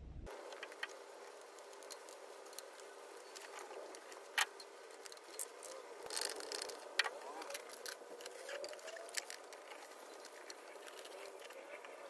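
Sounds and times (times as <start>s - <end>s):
faint steady hum: 0.0s - 12.0s
tools and engine parts clicking: 0.3s - 12.0s.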